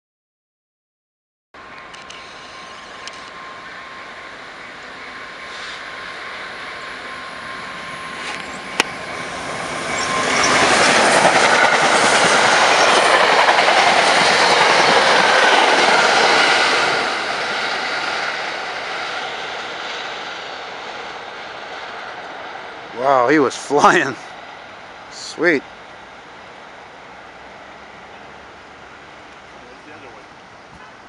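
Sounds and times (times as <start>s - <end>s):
train passing at speed: 1.6s - 31.0s.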